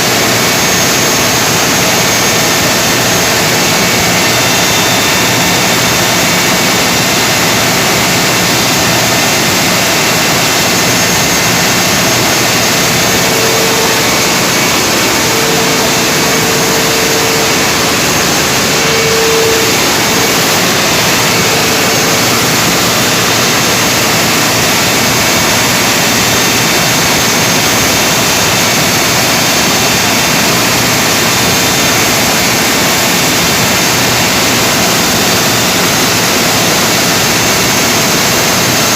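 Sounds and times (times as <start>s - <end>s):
generator engine roaring: 0.0s - 38.9s.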